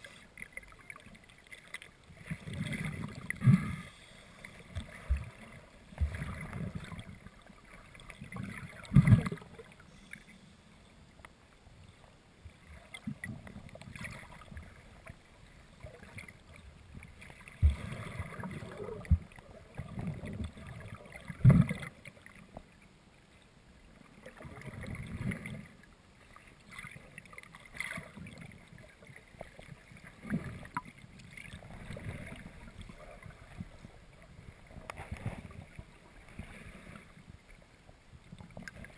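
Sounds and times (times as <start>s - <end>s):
muffled water sloshing: 0.0s - 22.8s, 23.9s - 38.9s.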